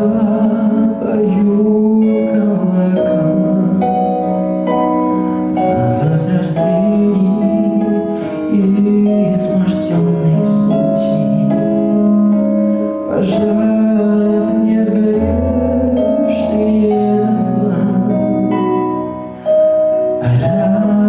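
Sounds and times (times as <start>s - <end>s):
piano accompaniment: 0.0s - 21.0s.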